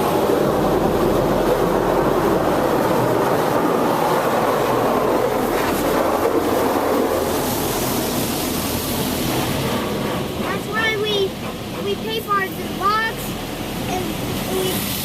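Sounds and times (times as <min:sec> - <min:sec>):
car wash water spraying: 0:00.0 - 0:15.0.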